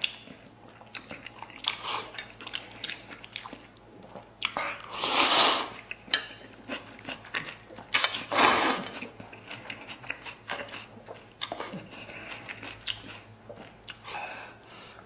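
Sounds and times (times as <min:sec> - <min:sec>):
person chewing with wet clicks: 0:00.0 - 0:15.0.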